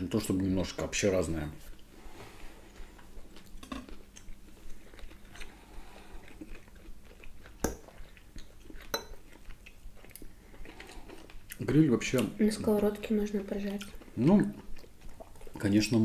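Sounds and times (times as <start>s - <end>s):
quiet chewing: 1.4s - 16.0s.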